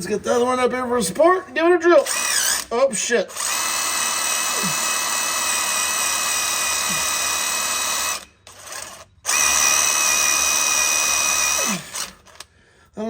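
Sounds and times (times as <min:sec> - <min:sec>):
power drill whining: 0:02.0 - 0:12.6.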